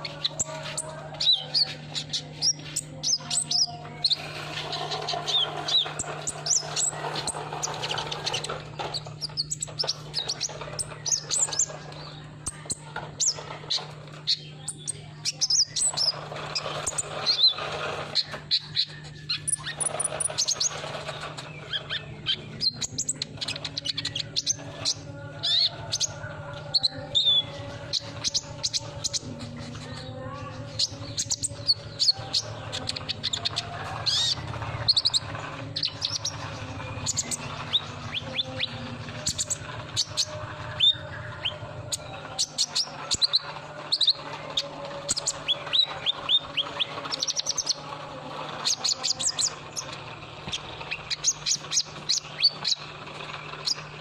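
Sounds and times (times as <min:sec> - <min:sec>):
sunbird chirps and twitters: 0:00.0 - 0:54.0.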